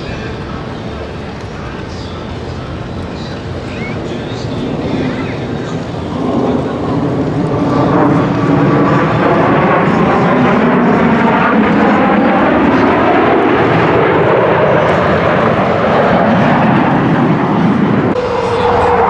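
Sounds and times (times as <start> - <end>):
jet aircraft flying past: 0.0 - 19.0.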